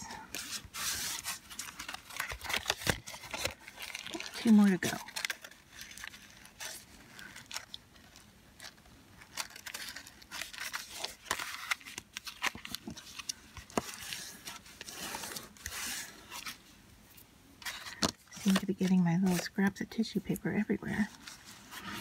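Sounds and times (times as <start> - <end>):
cardstock paper rustling and scraping: 0.0 - 16.7, 17.6 - 22.0.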